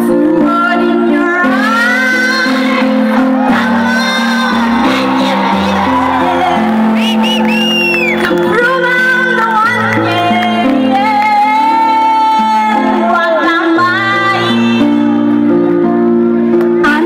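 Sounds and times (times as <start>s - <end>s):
woman singing into microphone: 0.0s - 6.6s, 8.2s - 15.3s, 16.8s - 17.0s.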